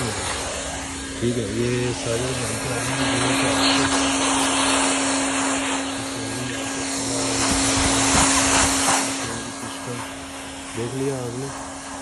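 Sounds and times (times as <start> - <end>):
hot-air gun blower hiss: 0.0 - 12.0
motor hum: 0.0 - 12.0.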